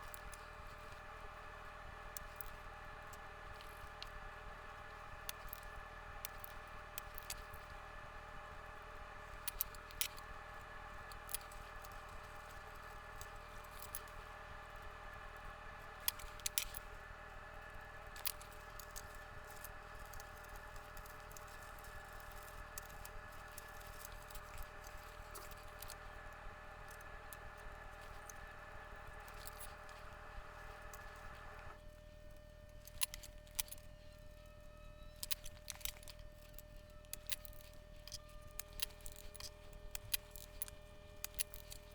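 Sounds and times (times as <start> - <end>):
steady equipment hum: 0.0 - 41.9.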